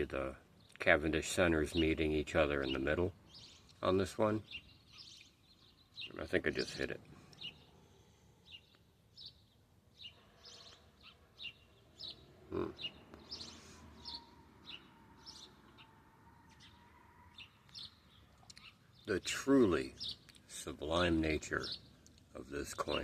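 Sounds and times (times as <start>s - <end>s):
birds chirping faintly: 0.0s - 23.0s.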